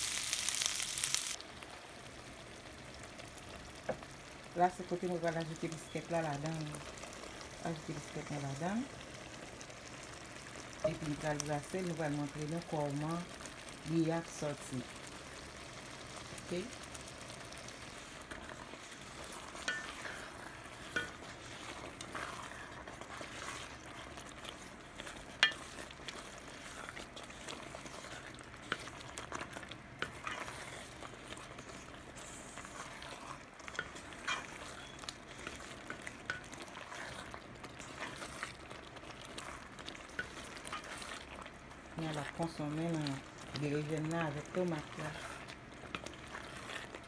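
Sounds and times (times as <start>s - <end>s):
sauce sizzling: 0.0s - 47.0s
utensil stirring a pot: 2.6s - 47.0s.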